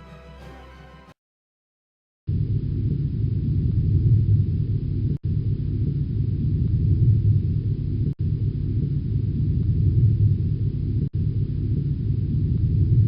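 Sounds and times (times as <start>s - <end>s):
deep rumbling noise: 2.3s - 13.0s.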